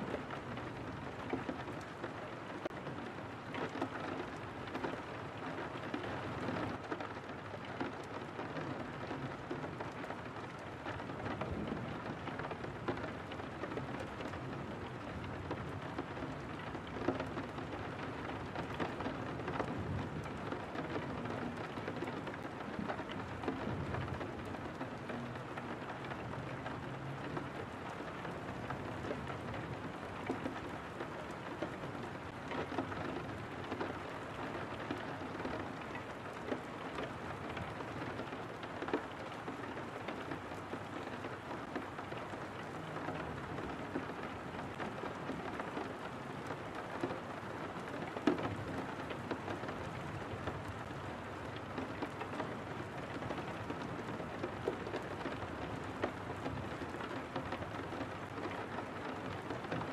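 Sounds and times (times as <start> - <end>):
rain pattering on a window: 0.0 - 59.9.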